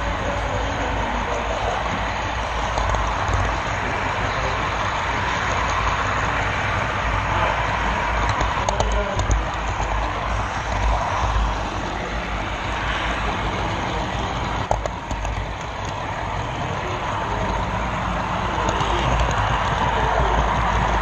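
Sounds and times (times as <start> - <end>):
model train car rattling on track: 0.0 - 21.0.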